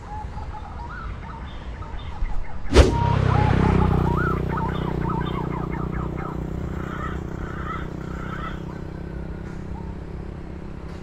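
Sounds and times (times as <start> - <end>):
small birds chirping: 0.0 - 11.0
vehicle engine hum: 0.0 - 11.0.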